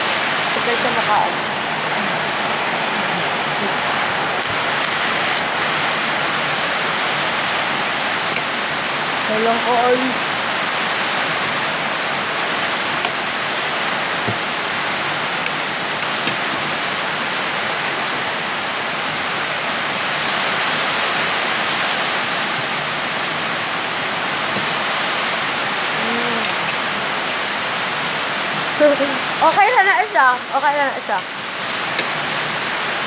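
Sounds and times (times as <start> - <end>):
heavy rain on a metal roof: 0.0 - 33.0.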